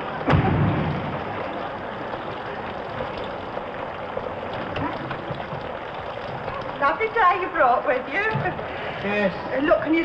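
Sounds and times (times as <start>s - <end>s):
rain hissing: 0.0s - 10.0s.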